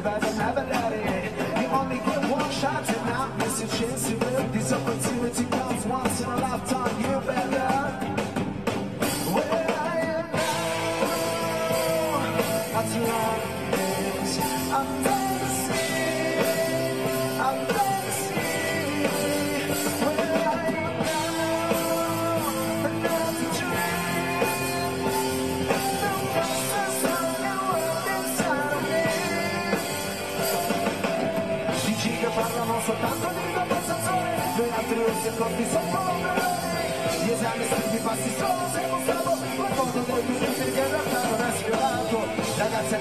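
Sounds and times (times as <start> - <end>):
man singing into a microphone: 0.0 - 8.4, 9.1 - 43.0
live rock band playing: 0.0 - 43.0.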